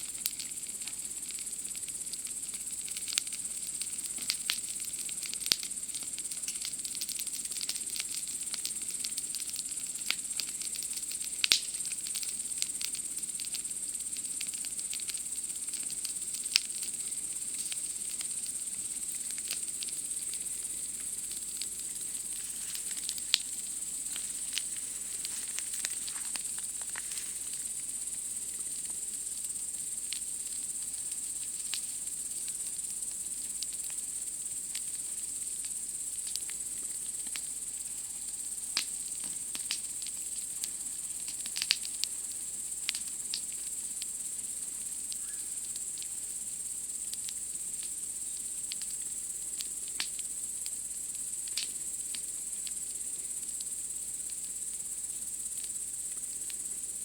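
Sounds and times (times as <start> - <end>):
campfire crackling and popping: 0.0 - 53.6
night insects chirping: 0.0 - 57.0.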